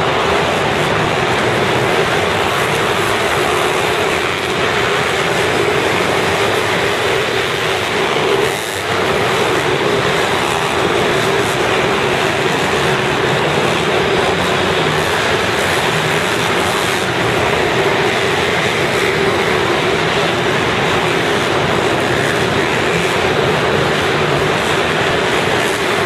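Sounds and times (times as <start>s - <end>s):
small motocross bike engines: 0.0s - 26.0s.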